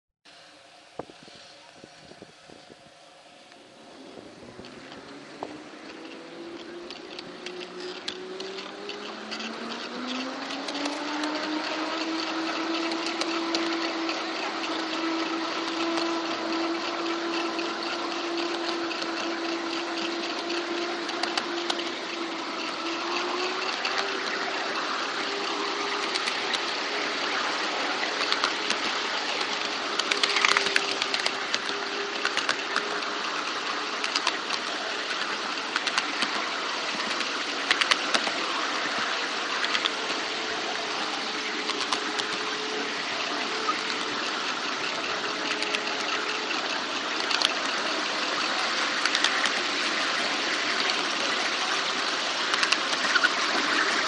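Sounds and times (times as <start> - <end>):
model locomotive motor whine: 0.3 - 54.0
wheels clicking on rails: 1.0 - 54.0.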